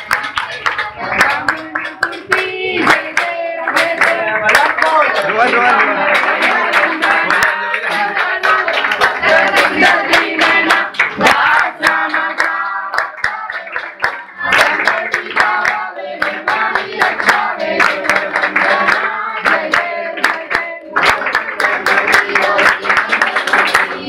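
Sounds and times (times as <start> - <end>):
group of people singing: 0.0 - 24.0
rhythmic hand-clapping: 0.0 - 24.0.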